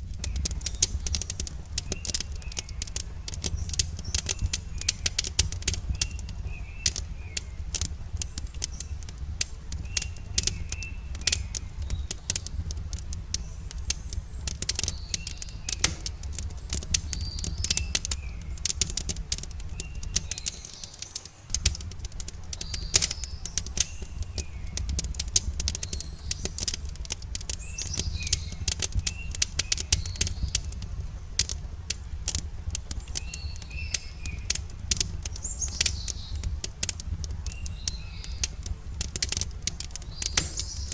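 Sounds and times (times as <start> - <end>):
campfire crackling and popping: 0.0 - 40.9
steady low rumble: 0.0 - 40.9
birds chirping: 0.2 - 40.9.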